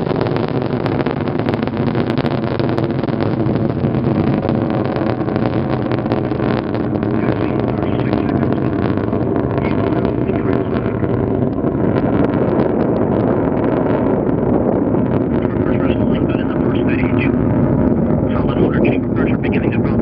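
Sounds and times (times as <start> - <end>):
rocket engine crackle: 0.0 - 20.0
rocket engine deep rumble: 0.0 - 20.0.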